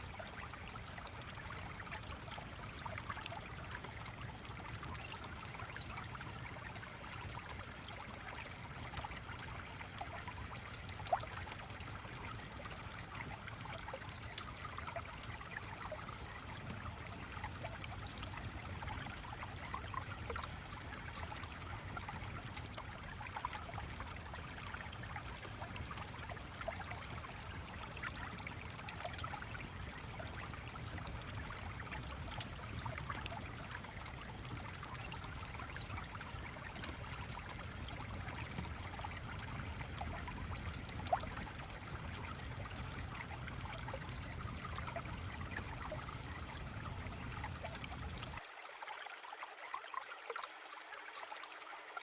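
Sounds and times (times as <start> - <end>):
stream trickling: 0.0 - 52.0.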